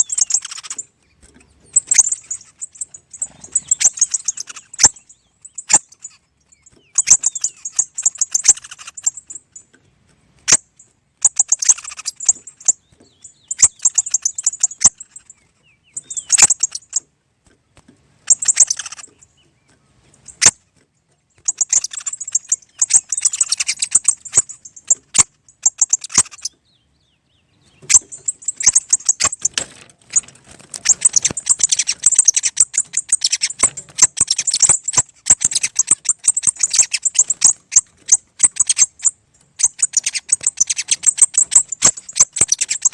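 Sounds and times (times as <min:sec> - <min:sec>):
small birds twittering: 0:00.0 - 0:42.9.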